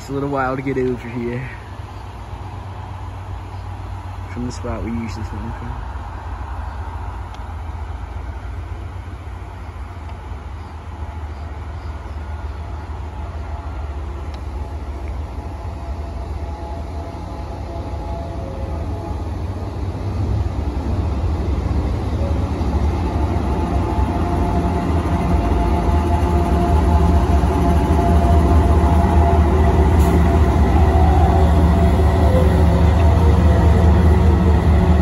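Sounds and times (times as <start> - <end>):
locomotive engine rumble: 0.0 - 35.0.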